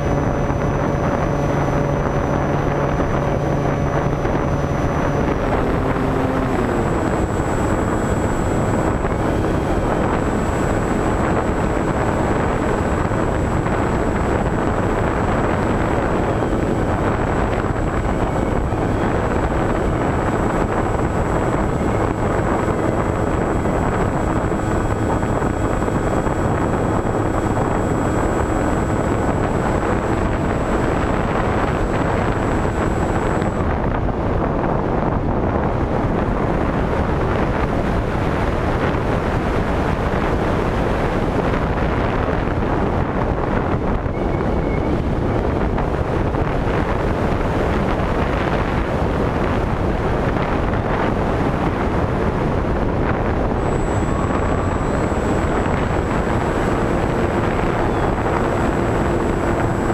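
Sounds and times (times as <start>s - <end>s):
airflow over microphone: 0.0s - 59.9s
electric motor whine: 0.0s - 59.9s.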